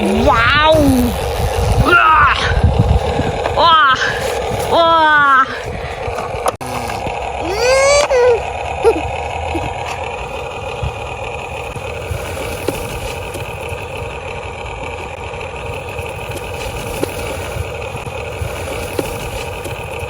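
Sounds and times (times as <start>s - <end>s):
small electric motors whirring: 0.0s - 20.0s.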